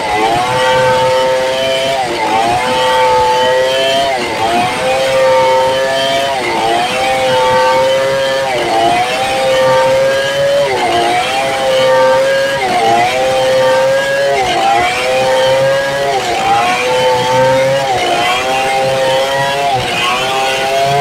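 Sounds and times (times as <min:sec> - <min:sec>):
chainsaw cutting a log: 0:00.0 - 0:21.0.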